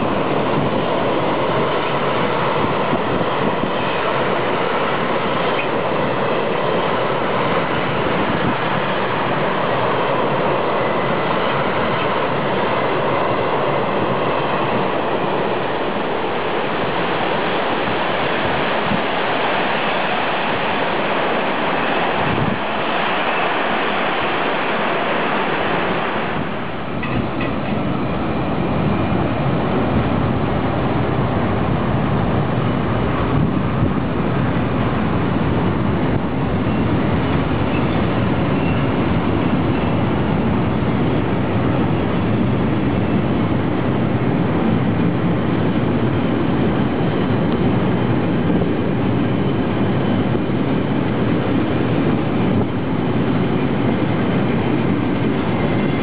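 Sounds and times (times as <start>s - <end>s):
freight wagon wheels on rails: 0.0s - 56.0s.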